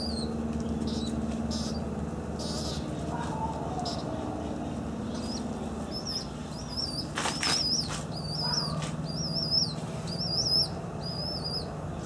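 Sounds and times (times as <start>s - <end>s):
low hum: 0.0s - 12.0s
small bird chirping: 0.0s - 12.0s.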